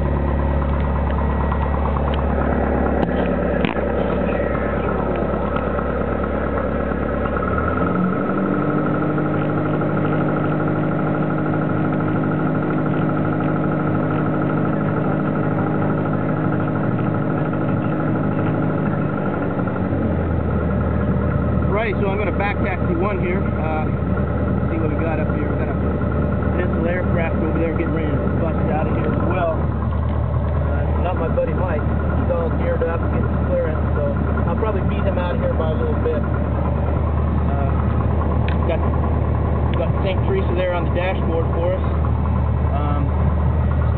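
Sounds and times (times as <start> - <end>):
light aircraft engine and propeller: 0.0 - 43.9.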